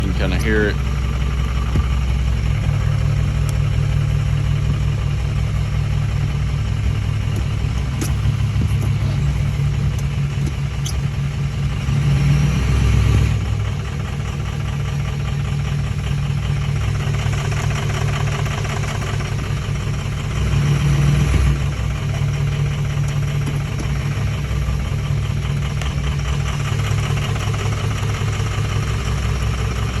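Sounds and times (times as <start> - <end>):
car engine idling roughly: 0.0 - 30.0.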